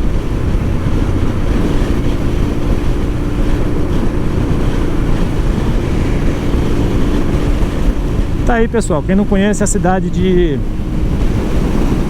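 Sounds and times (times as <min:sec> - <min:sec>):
motorcycle engine droning: 0:00.0 - 0:12.0
wind rush on microphone: 0:00.0 - 0:12.0.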